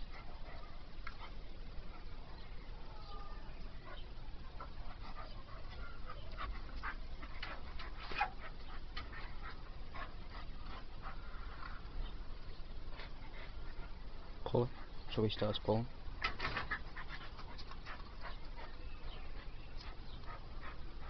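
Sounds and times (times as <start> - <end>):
dog panting: 0.0 - 2.5, 3.7 - 15.1, 16.2 - 21.0.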